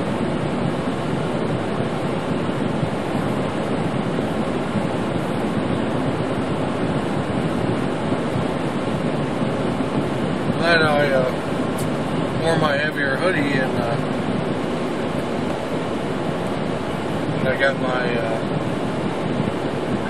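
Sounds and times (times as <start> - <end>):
defroster fan blowing: 0.0 - 20.0.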